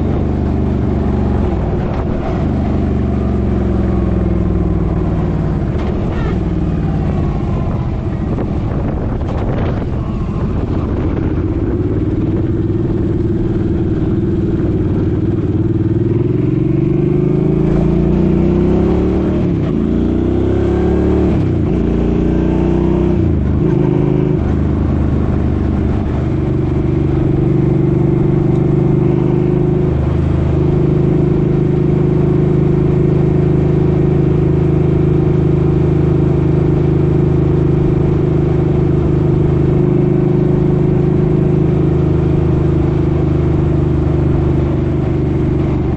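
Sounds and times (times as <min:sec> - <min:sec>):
motorcycle engine shifting gears: 0:00.0 - 0:45.9.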